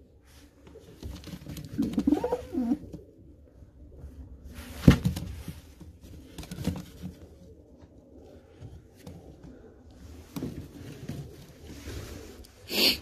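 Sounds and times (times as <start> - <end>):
pigeons cooing faintly: 0.0 - 4.8, 5.9 - 13.0.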